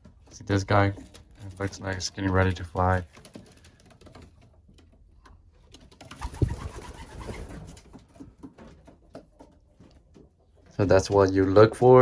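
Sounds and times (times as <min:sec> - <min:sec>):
faint clicks and shuffling: 0:00.0 - 0:06.2, 0:07.3 - 0:12.0.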